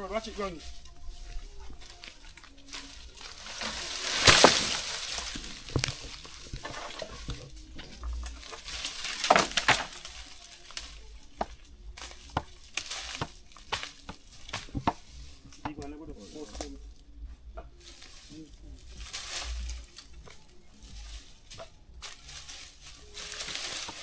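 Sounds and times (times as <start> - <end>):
dry leaves and brush rustling: 0.0 - 24.0
twigs snapping: 1.7 - 16.9, 17.6 - 24.0.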